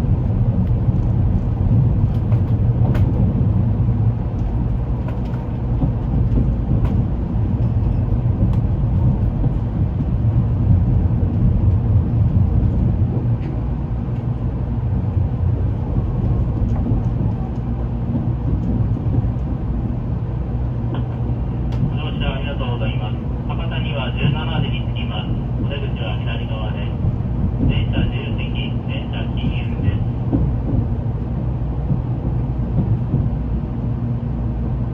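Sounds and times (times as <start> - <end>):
train rumbling inside carriage: 0.0 - 34.9.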